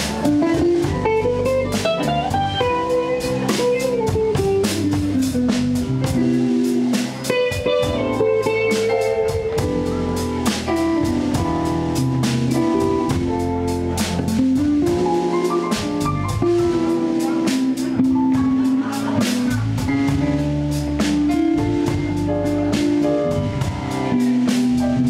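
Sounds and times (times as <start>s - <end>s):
bending electric guitar melody: 0.0s - 25.0s
drum kit beat: 0.0s - 25.0s
keyboard chords: 0.0s - 25.0s.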